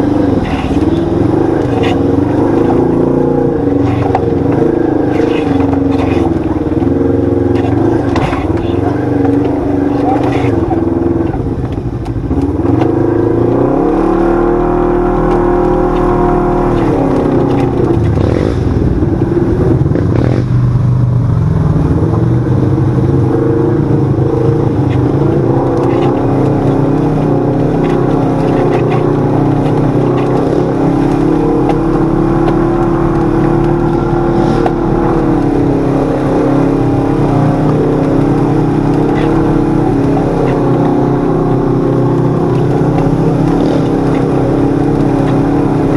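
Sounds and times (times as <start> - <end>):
utility vehicle engine revving: 0.0 - 45.9.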